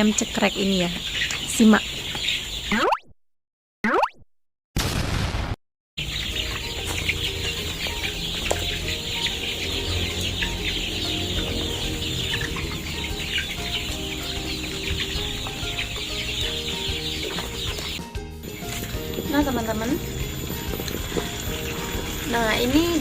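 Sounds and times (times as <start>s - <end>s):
chickens clucking and peeping: 0.0s - 2.7s, 6.0s - 23.0s.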